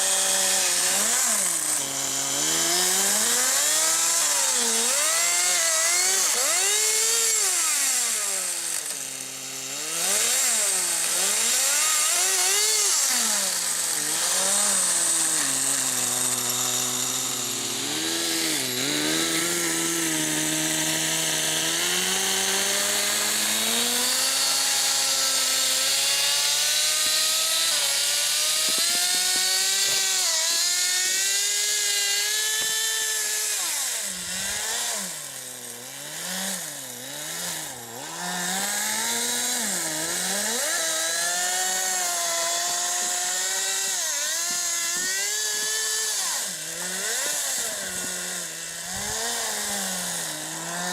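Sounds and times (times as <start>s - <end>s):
model nitro engine revving: 0.0s - 50.9s.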